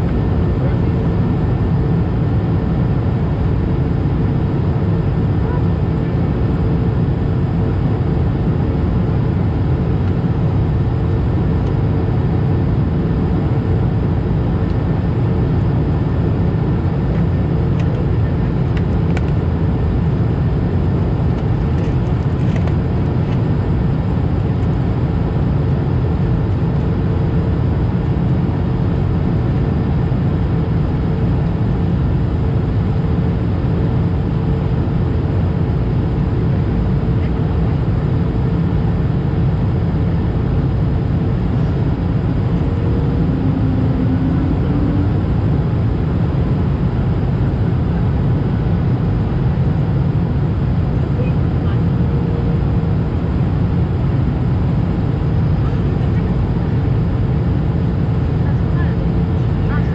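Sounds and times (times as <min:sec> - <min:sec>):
airplane cabin rumble: 0:00.0 - 0:59.9
low engine hum: 0:00.0 - 0:59.9.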